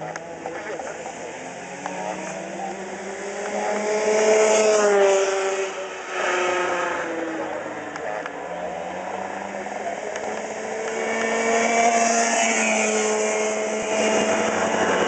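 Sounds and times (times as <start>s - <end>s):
kart engine racing past: 1.0s - 15.0s.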